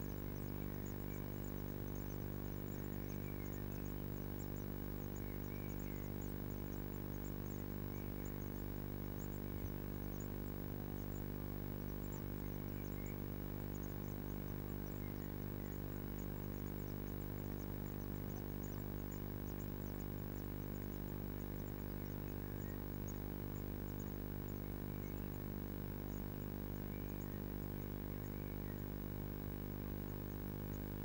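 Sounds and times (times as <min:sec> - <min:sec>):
low electrical hum: 0:00.0 - 0:31.0
nestlings begging calls: 0:00.0 - 0:31.0.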